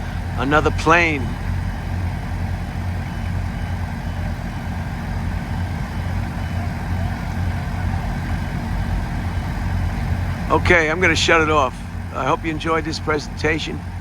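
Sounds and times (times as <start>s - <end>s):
heavy vehicle engines rumbling: 0.0s - 14.0s.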